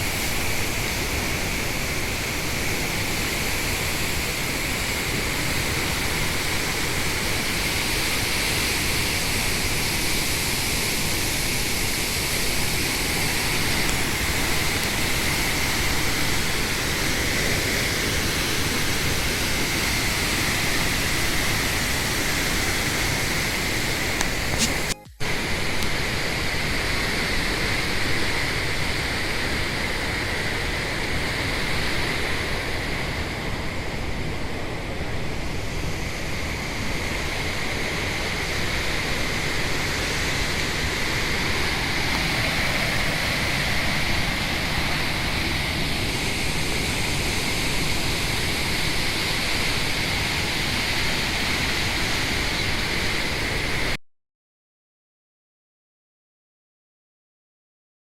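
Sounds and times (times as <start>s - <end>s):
flowing water rushing: 0.0s - 53.9s.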